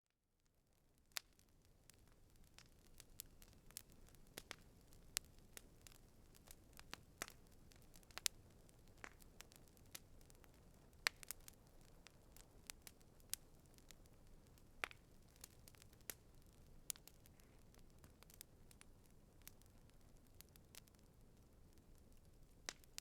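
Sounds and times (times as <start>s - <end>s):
campfire crackling and popping: 0.4s - 23.0s.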